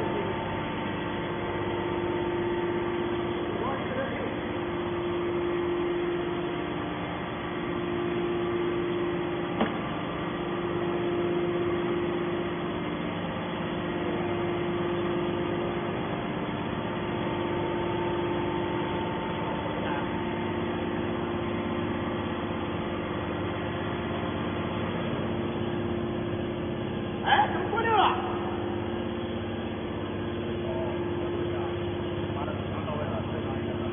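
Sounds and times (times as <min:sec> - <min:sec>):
hydraulic power unit humming: 0:00.0 - 0:33.9.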